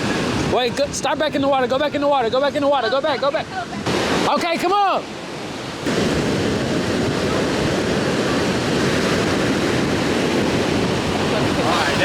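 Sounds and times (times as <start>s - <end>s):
ocean surf washing onto beach: 0.0s - 12.0s.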